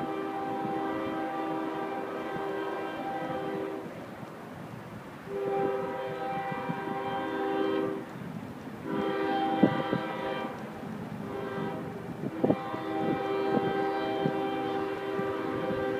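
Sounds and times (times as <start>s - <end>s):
locomotive air horn blasts: 0.0s - 3.9s, 5.3s - 8.0s, 8.8s - 10.6s, 11.2s - 15.9s.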